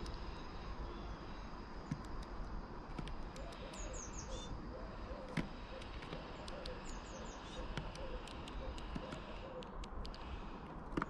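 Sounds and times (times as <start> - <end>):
small songbirds chirping: 0.0 - 10.5
steady low hum: 0.0 - 11.0.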